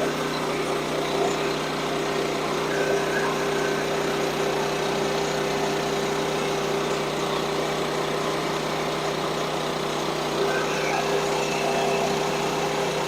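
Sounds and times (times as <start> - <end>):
gasoline engine droning: 0.0 - 13.0.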